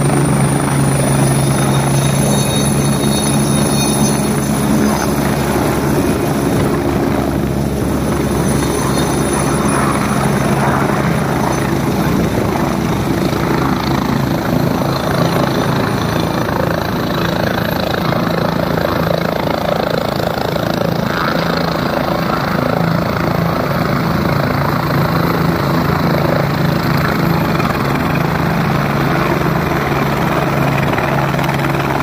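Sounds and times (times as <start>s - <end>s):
helicopter rotor and turbine: 0.0s - 32.0s.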